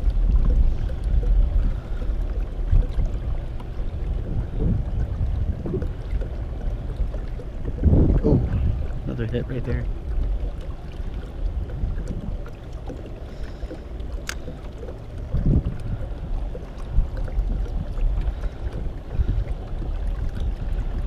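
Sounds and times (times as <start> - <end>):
water against kayak hull: 0.0 - 21.0
wind rumbling on microphone: 0.0 - 21.0.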